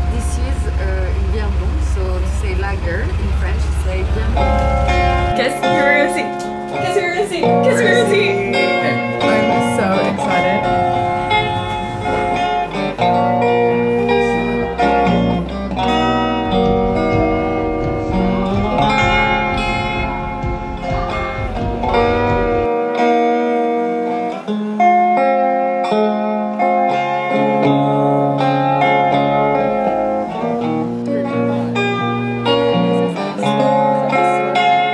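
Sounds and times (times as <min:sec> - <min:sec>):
guitar background music: 0:00.0 - 0:34.9.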